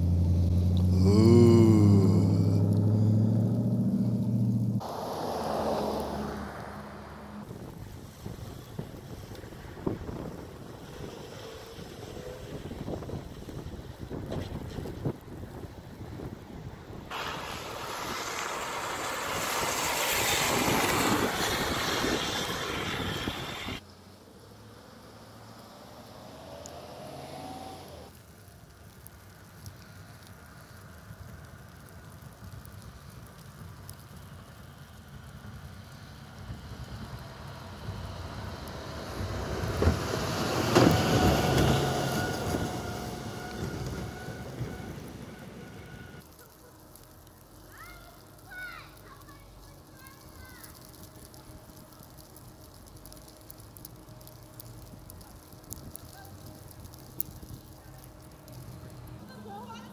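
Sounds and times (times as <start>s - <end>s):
vehicle passing on snowy road: 0.0s - 59.9s.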